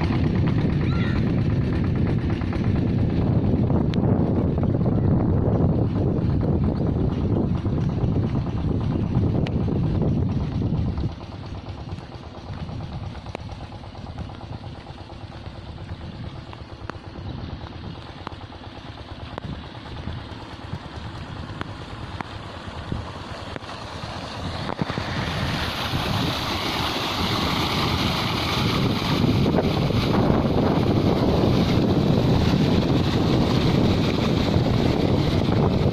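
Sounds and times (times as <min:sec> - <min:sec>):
diesel pump engine running: 0:00.0 - 0:35.9
wind on microphone: 0:00.0 - 0:35.9
water pouring from pipe: 0:05.7 - 0:35.9.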